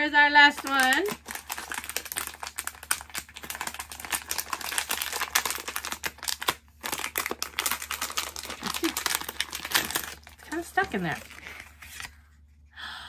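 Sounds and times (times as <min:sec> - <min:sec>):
foil bag crinkling: 0:00.4 - 0:12.2.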